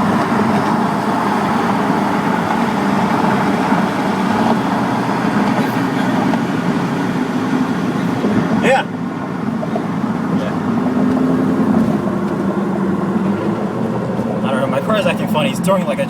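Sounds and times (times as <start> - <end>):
car engine and road noise inside: 0.0 - 16.0.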